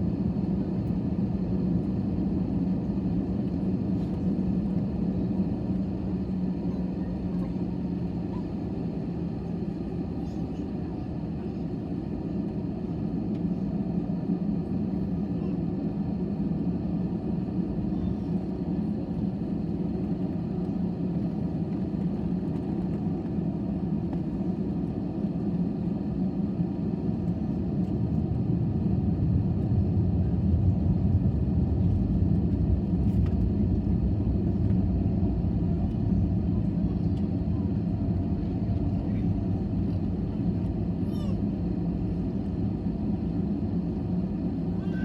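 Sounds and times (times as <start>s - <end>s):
jet engine rumble inside cabin: 0.0s - 45.0s.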